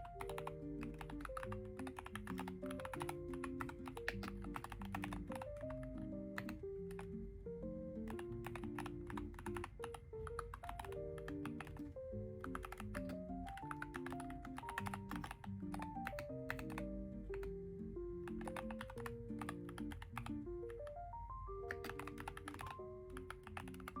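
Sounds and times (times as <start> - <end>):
keyboard keystroke clicks: 0.0 - 7.2, 8.0 - 17.6, 18.2 - 21.0, 21.6 - 24.0
gentle background music: 0.0 - 24.0.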